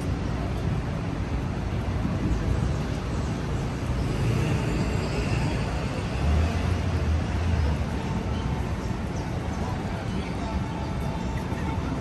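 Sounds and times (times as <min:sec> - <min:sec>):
low traffic engine rumble: 0:00.0 - 0:12.0.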